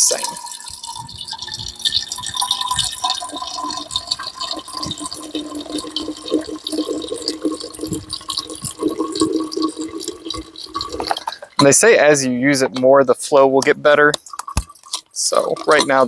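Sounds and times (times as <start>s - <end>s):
water trickling into a container: 0.0s - 16.0s.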